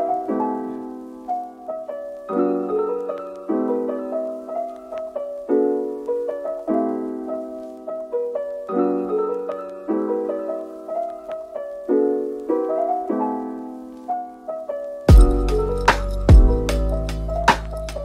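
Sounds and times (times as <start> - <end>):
slow gentle piano chords: 0.0 - 18.0.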